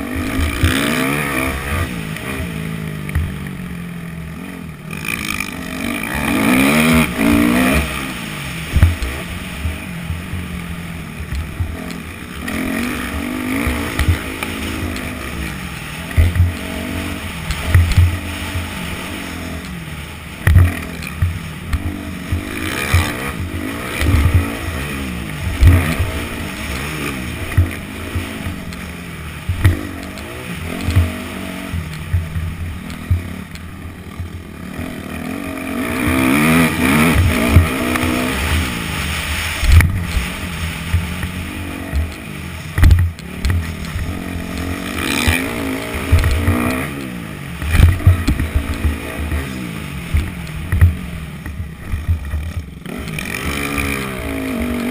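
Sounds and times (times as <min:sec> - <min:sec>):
low thumps over bumps: 0:00.0 - 0:05.8, 0:06.6 - 0:53.2
dirt bike engine revving: 0:00.0 - 0:54.9.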